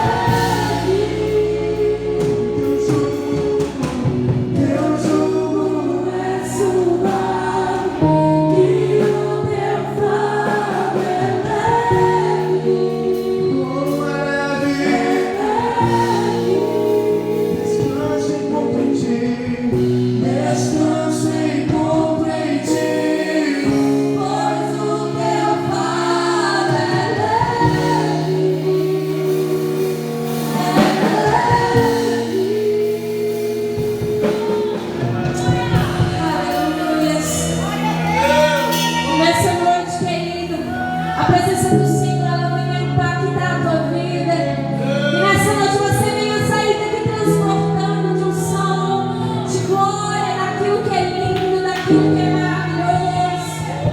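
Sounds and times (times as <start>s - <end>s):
voices singing worship song: 0.0s - 53.9s.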